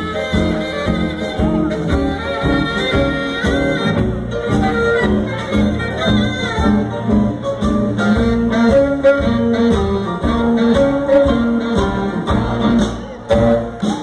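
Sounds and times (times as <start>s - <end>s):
drums: 0.0s - 14.0s
live band music: 0.0s - 14.0s
saxophone: 0.0s - 14.0s.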